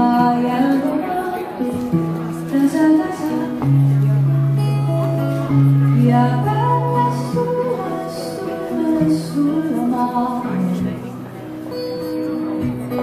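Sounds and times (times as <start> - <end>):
woman singing into a microphone: 0.0 - 4.7, 5.5 - 11.2
acoustic guitar: 0.0 - 13.0.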